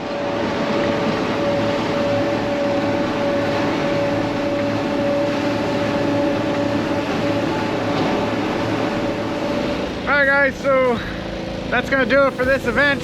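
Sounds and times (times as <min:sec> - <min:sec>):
constant high whine: 0:00.0 - 0:13.0
vehicle engine running: 0:01.4 - 0:13.0.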